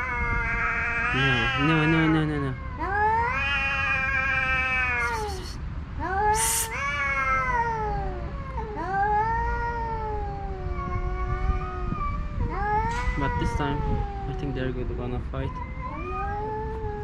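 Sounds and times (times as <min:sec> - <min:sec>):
cats yowling: 0:00.0 - 0:17.0.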